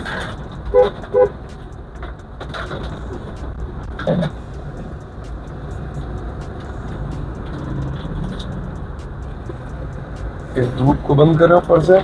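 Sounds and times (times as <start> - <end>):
diesel engine running: 0.0 - 12.0
road noise: 0.0 - 12.0.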